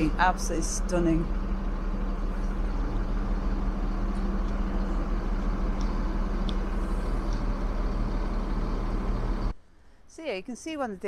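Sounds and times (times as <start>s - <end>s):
engine rumble with low hum: 0.0s - 9.6s.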